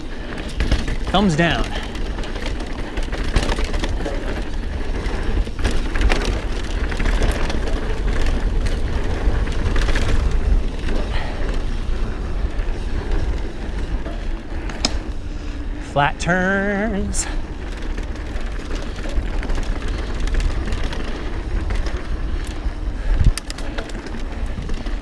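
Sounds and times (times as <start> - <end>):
bike rattling over bumps: 0.0 - 25.0
bike tyres crunching over stones: 0.0 - 25.0.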